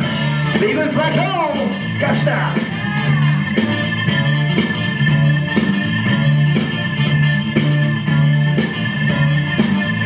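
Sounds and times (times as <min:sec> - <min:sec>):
organ-like keyboard tones: 0:00.0 - 0:10.0
steady drum beat: 0:00.0 - 0:10.0.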